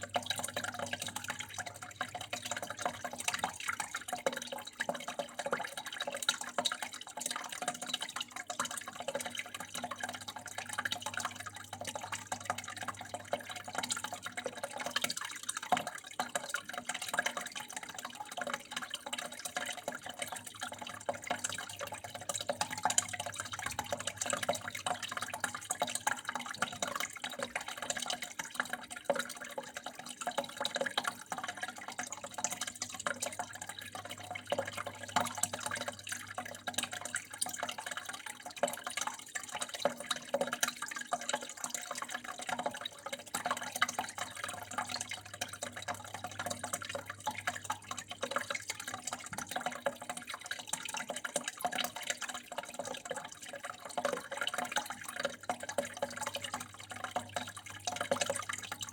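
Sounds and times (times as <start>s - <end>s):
water trickling and dripping: 0.0s - 58.9s.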